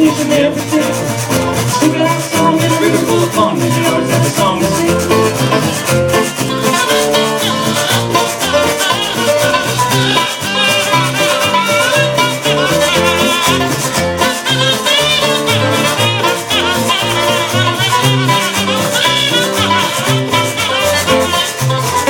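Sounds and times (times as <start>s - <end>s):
banjo: 0.0s - 22.0s
jug blown as bass horn: 0.0s - 22.0s
strummed acoustic guitar: 0.0s - 22.0s
upright bass: 0.0s - 22.0s.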